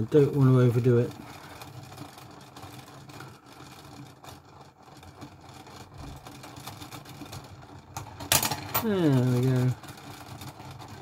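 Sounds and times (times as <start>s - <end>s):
clockwork motor whirring: 0.0s - 11.0s.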